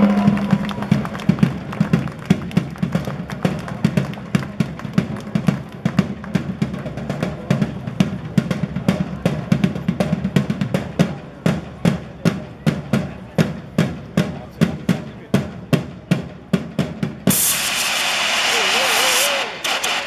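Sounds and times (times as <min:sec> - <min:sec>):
drum ensemble playing: 0:00.0 - 0:20.0.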